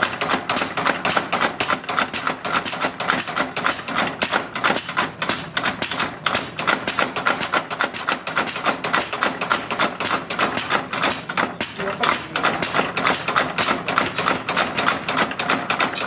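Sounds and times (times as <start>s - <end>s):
rapid hammer blows on steel: 0.0s - 16.0s.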